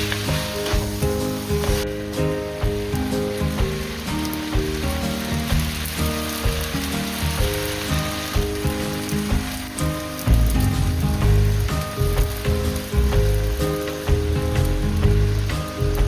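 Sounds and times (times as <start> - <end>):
background music with simple melody: 0.0 - 16.0
vegetables sizzling in frying pan: 0.0 - 16.0.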